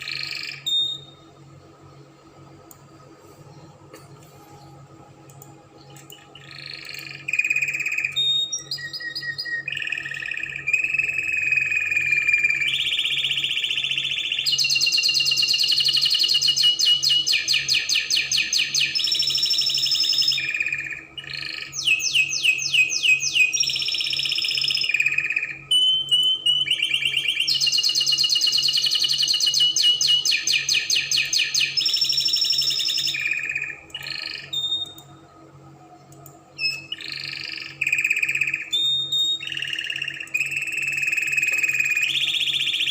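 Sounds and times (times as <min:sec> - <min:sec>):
canary singing trills: 0:00.0 - 0:01.3, 0:05.8 - 0:35.3, 0:36.6 - 0:42.9
faint steady hum: 0:00.0 - 0:42.9.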